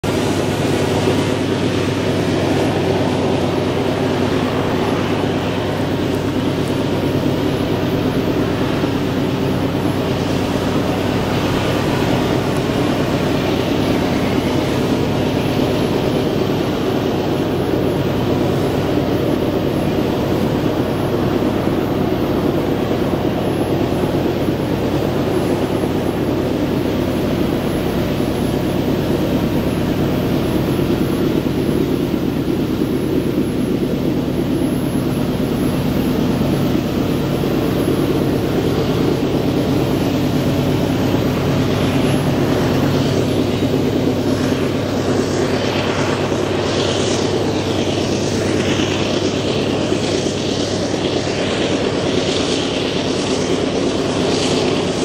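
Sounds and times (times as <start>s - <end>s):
drone propellers buzzing: 0.0s - 55.0s.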